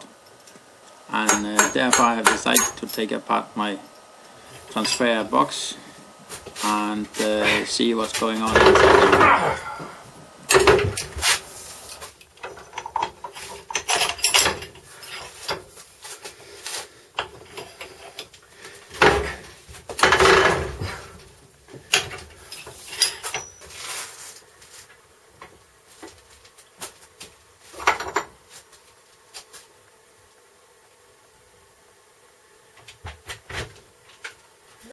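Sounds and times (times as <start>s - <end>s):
hand tools and metal clattering: 0.0s - 5.5s, 6.1s - 28.8s.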